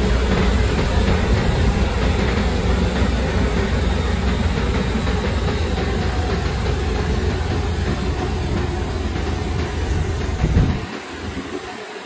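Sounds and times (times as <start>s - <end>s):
diesel engine drone: 0.0s - 11.7s.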